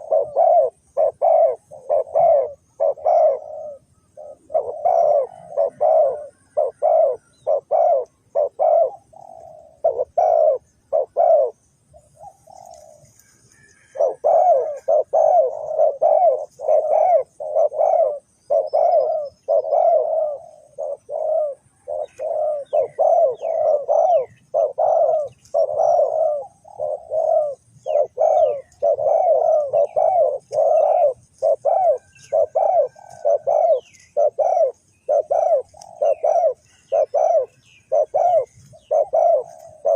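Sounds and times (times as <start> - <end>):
dove cooing: 0.0 - 39.9
faint high bird chirps: 0.0 - 39.9.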